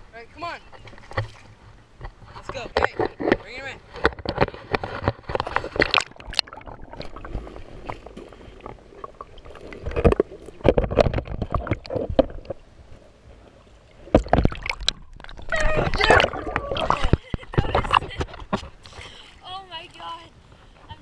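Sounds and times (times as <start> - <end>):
water sloshing and splashing: 0.4 - 21.0.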